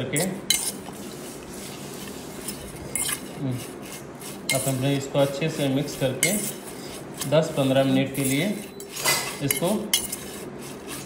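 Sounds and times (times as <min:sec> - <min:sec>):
spoon scraping and clinking metal bowl: 0:00.1 - 0:00.9, 0:02.0 - 0:11.0.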